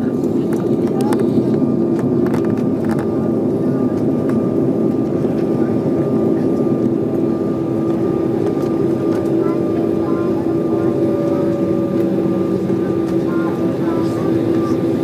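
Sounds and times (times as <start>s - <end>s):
aircraft cabin hum: 0.0s - 15.0s.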